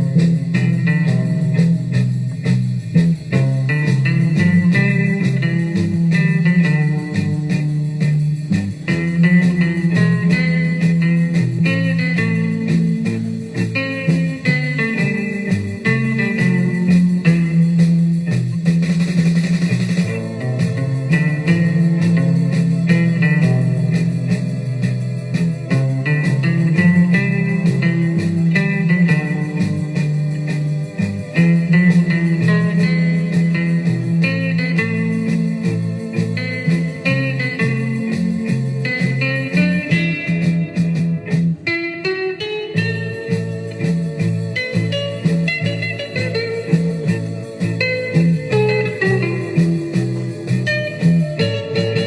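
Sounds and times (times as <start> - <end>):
bass line: 0.0 - 52.0
blues guitar plucking: 0.0 - 52.0.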